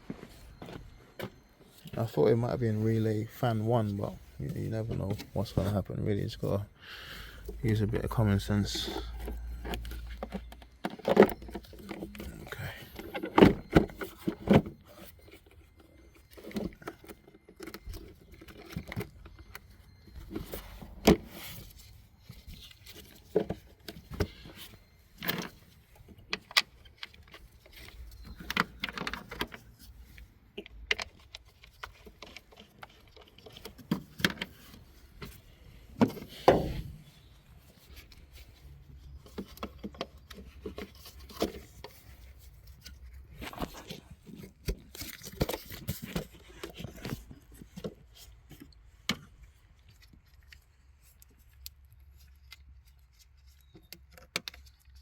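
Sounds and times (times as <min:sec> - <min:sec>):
parts and tools clicking and rattling: 0:07.4 - 0:55.0.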